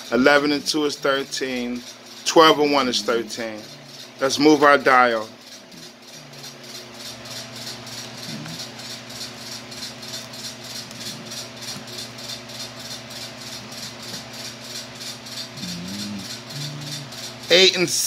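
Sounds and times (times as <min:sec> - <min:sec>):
pulsing hiss: 0:00.0 - 0:06.6, 0:08.2 - 0:18.0
low background hum: 0:00.0 - 0:18.0.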